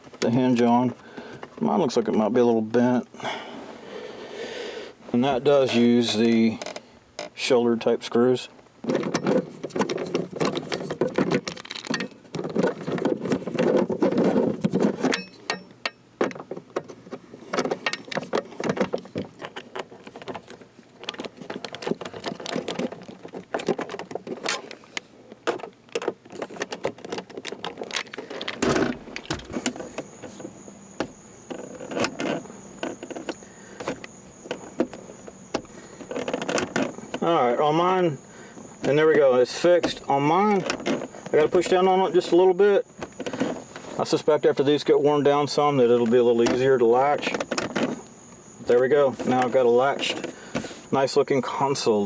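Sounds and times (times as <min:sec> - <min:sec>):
clicking and rattling of plastic parts: 0:05.6 - 0:07.4, 0:08.8 - 0:51.2.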